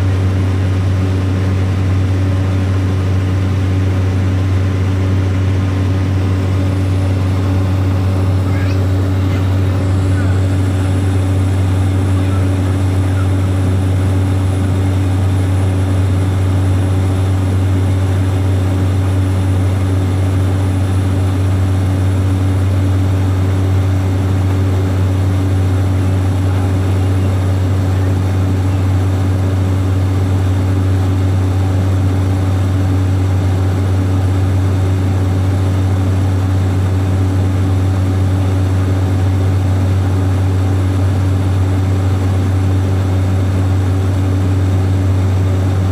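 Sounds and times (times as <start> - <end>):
propeller aircraft engine drone: 0.0 - 45.9.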